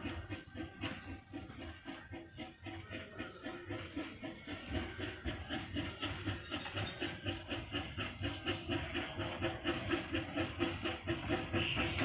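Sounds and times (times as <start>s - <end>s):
steam hissing: 0.0s - 12.0s
steam locomotive chuffing: 0.0s - 12.0s.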